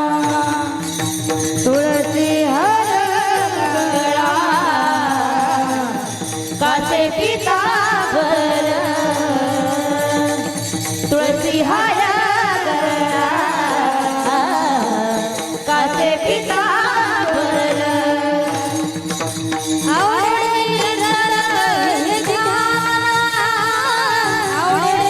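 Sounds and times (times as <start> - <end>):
woman singing: 0.0 - 19.0, 19.8 - 25.0.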